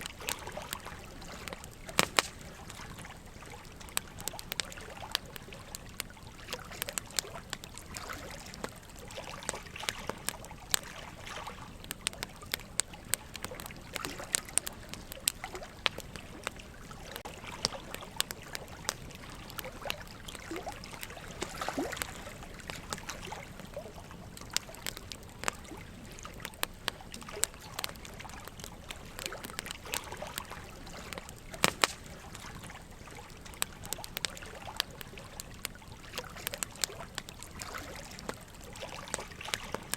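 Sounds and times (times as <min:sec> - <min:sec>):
trickle of running water: 0:00.0 - 0:39.9
wood fire crackling and popping: 0:00.0 - 0:39.9.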